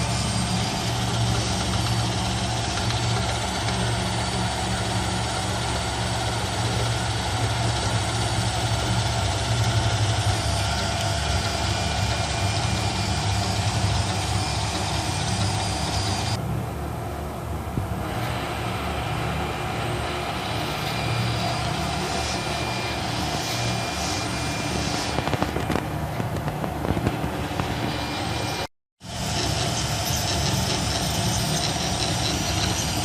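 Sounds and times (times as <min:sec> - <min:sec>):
three d printer humming: 0:00.0 - 0:16.4, 0:18.0 - 0:33.0.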